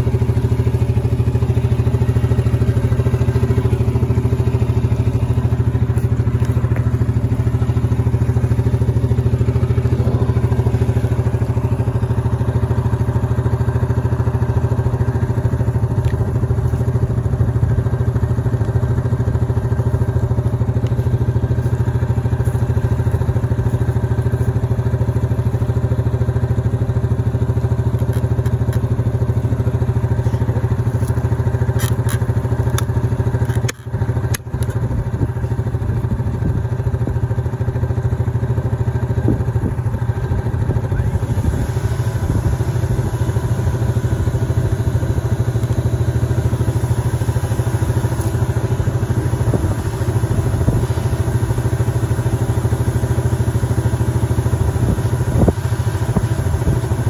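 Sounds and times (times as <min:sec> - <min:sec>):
atv engine idling: 0:00.0 - 0:57.0.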